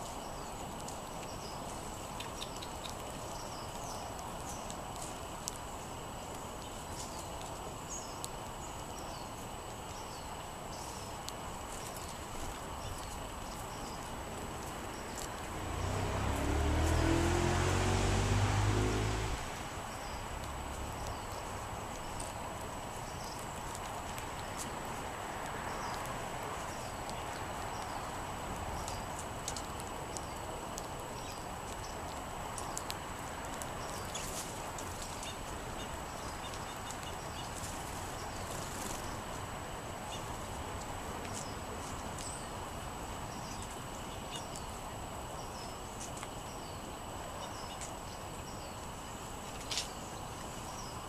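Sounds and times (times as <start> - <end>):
small birds chirping: 0.0 - 51.0
steady background hiss: 0.0 - 51.0.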